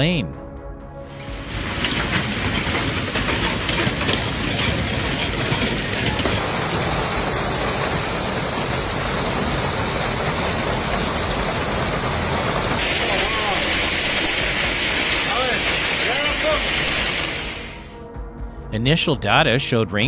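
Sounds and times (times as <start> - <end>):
heavy rain: 1.0 - 17.9
running water: 1.1 - 17.8.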